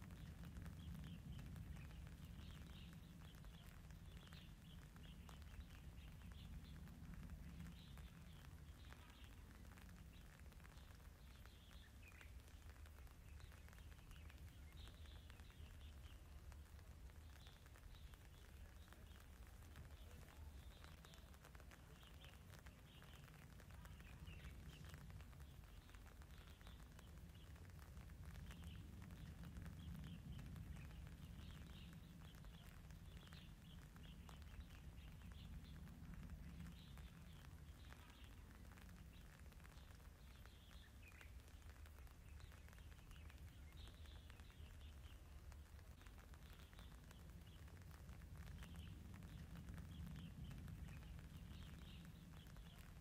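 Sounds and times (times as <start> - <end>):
low outdoor rumble: 0.0 - 53.0
small birds chirping: 0.0 - 53.0.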